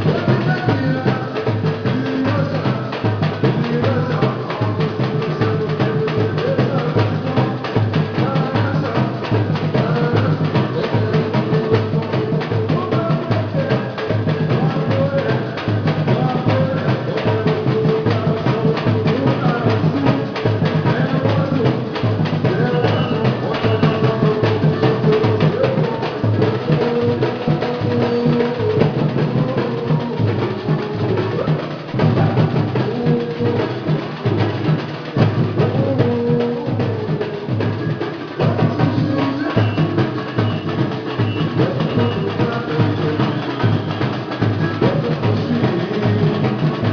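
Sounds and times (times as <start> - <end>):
melody over drums: 0.0 - 46.9
percussion ensemble drum groove: 0.0 - 46.9.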